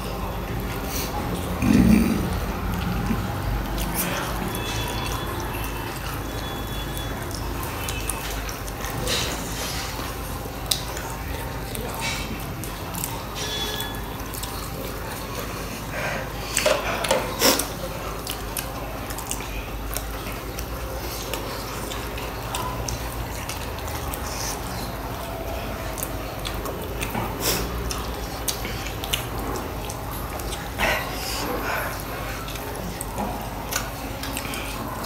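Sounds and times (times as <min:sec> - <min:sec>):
people biting and chewing: 0:00.0 - 0:35.0.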